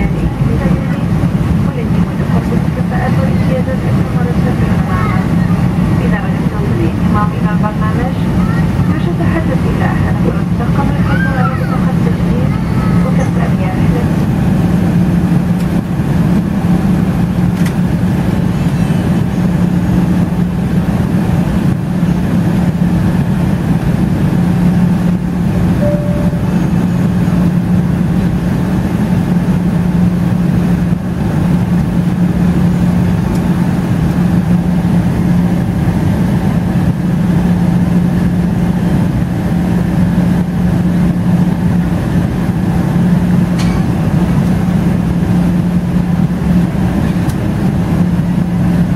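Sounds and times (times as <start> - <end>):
jet engine and airflow noise: 0.0 - 48.9.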